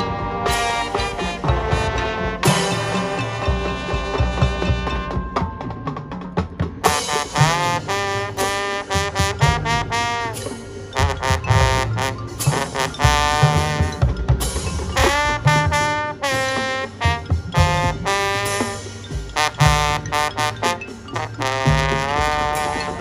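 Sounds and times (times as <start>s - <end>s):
brass section playing chords: 0.0s - 5.8s, 6.8s - 23.0s
low horns: 0.0s - 5.8s, 6.8s - 23.0s.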